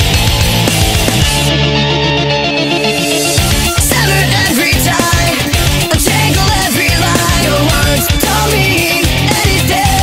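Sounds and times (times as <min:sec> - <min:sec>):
sped-up rock song: 0:00.0 - 0:10.0.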